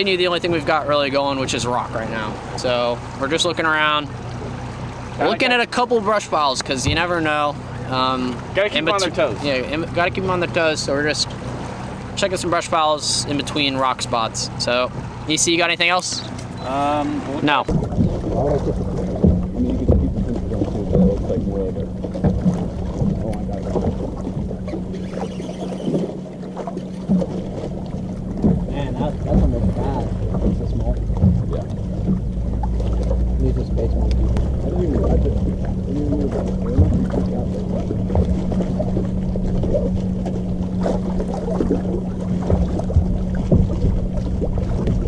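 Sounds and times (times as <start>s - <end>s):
steady low hum: 0.0s - 45.0s
waves lapping against boat hull: 0.0s - 45.0s
wind buffeting microphone: 0.0s - 45.0s.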